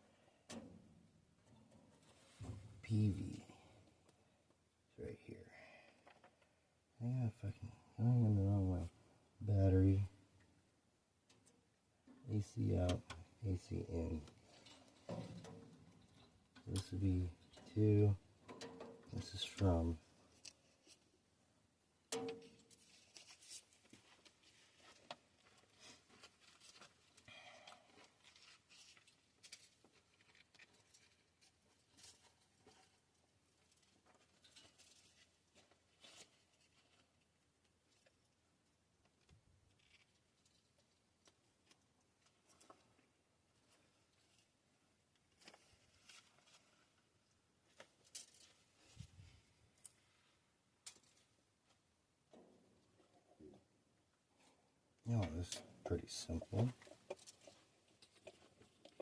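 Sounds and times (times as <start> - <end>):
light rustles of small objects: 1.4 - 4.2, 11.3 - 21.2, 22.1 - 53.7, 54.3 - 59.0.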